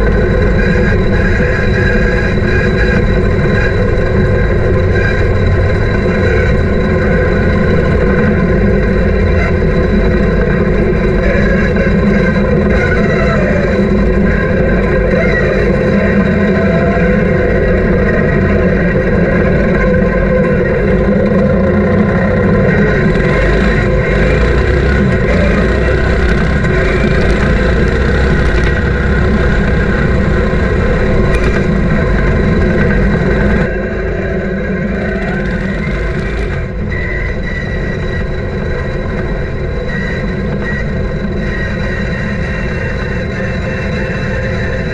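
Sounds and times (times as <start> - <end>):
lawn tractor engine running: 0.0 - 44.9.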